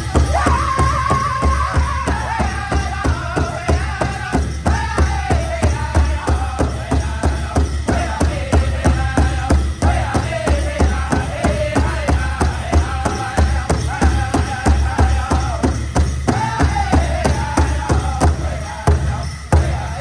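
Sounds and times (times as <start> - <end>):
large drum beating: 0.0 - 19.9
men singing in high voices: 0.0 - 20.0.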